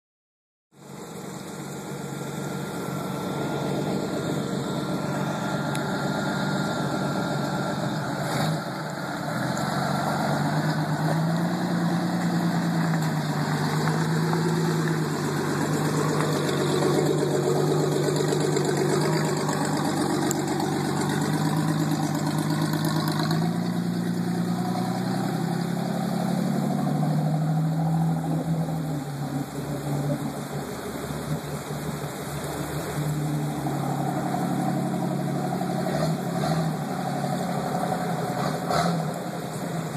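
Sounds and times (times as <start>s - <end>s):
car engine revving: 0.9s - 39.9s.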